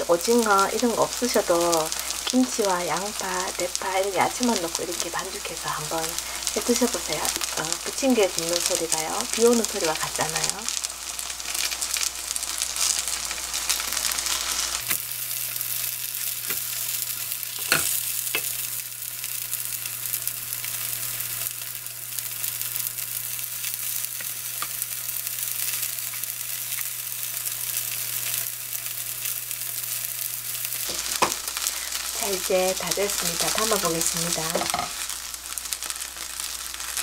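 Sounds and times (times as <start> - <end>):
pancakes sizzling in oil: 0.0 - 37.0.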